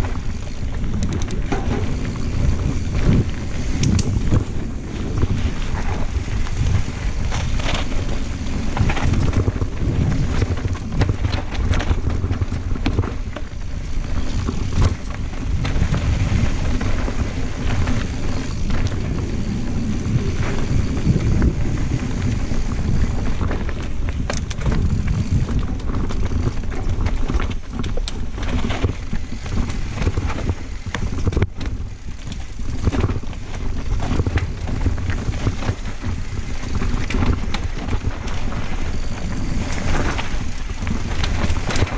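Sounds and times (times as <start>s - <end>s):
bike chain and frame rattling: 0.0s - 41.9s
tyre rumble on dirt: 0.0s - 41.9s
wind rushing over microphone: 0.0s - 41.9s.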